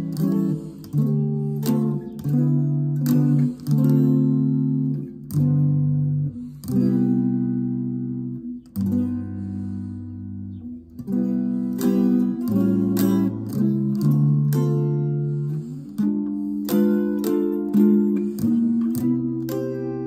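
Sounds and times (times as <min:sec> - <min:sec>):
electric guitar slow chords: 0:00.0 - 0:20.0.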